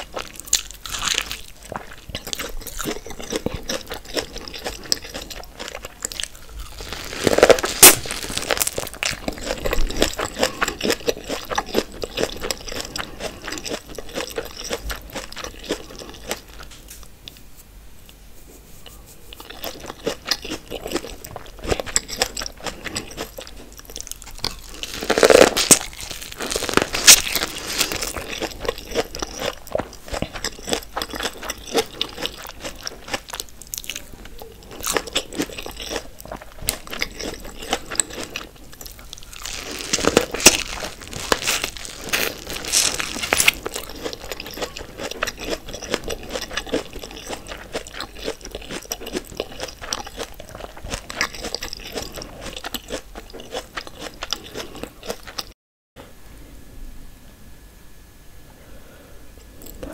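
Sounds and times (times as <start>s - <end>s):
crunchy biting and chewing: 0.0s - 17.4s, 18.9s - 55.5s.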